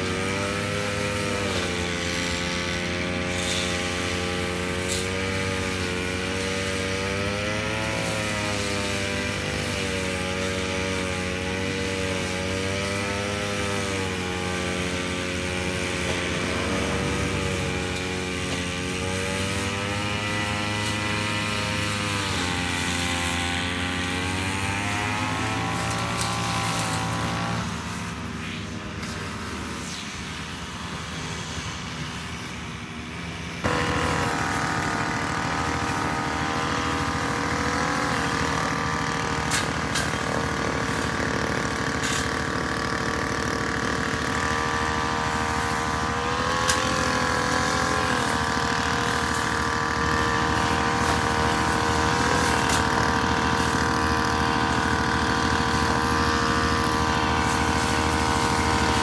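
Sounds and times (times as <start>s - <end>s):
brush cutter engines running: 0.0s - 59.0s.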